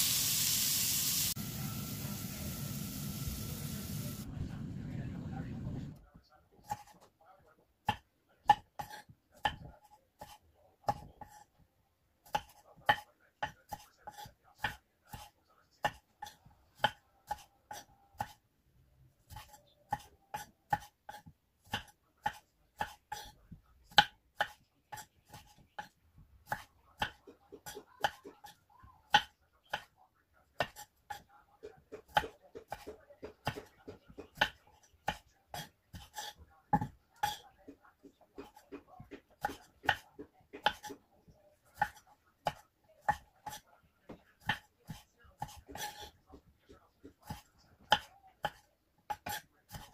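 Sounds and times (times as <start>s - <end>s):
knife chopping on cutting board: 6.6s - 7.1s, 7.8s - 11.5s, 12.2s - 18.4s, 19.3s - 29.9s, 30.6s - 49.9s.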